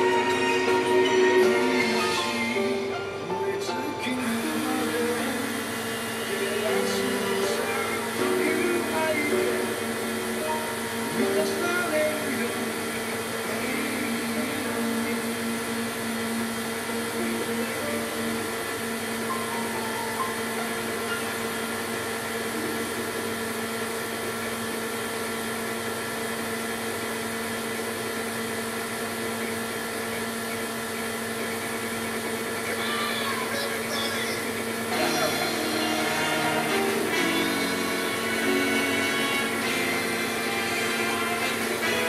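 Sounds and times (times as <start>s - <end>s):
tape drive air whir: 0.0s - 42.0s.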